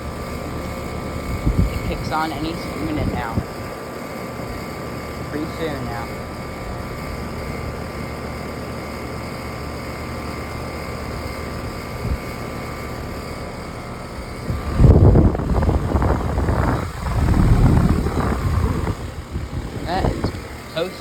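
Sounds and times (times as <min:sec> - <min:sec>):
air conditioner unit humming: 0:00.0 - 0:21.0
fan exhaust air buffeting microphone: 0:00.0 - 0:21.0.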